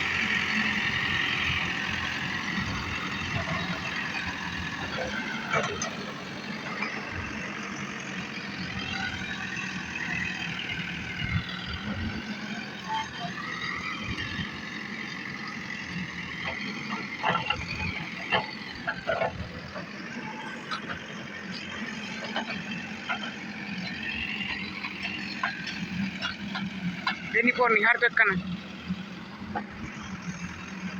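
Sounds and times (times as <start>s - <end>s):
diesel engine running under load: 0.0s - 30.9s.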